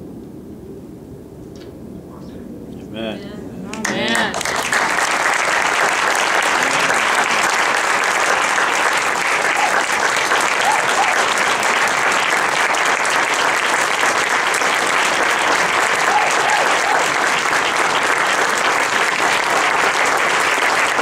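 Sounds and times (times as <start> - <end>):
audience applauding: 3.7 - 21.0.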